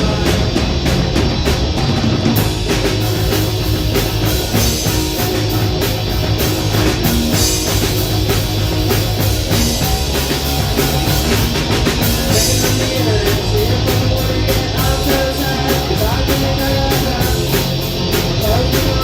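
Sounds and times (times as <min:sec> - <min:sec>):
bass guitar: 0:00.0 - 0:19.0
drum kit fast beat: 0:00.0 - 0:19.0
electric guitar: 0:00.0 - 0:19.0.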